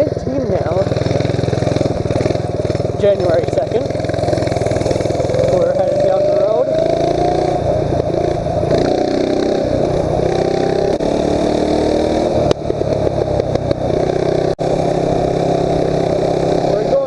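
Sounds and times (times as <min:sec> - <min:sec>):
mini bike engine revving: 0:00.0 - 0:17.0.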